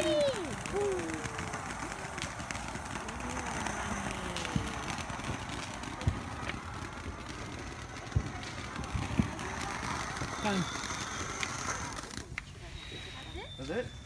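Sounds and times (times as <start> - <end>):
firework fountain hissing: 0.0 - 14.0.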